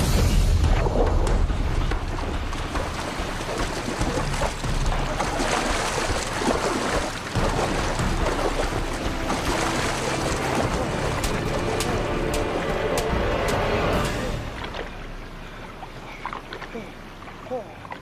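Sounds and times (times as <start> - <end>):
background music: 0.0 - 15.4
sea water splashing: 0.0 - 18.0.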